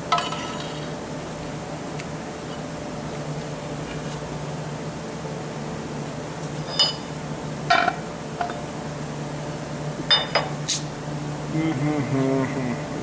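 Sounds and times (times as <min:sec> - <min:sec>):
low fan hum: 0:00.0 - 0:13.0.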